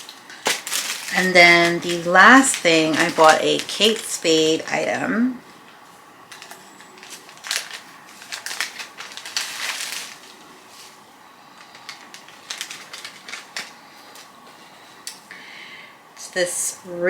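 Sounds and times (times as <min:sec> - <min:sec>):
packaging crinkling: 0:00.0 - 0:15.2.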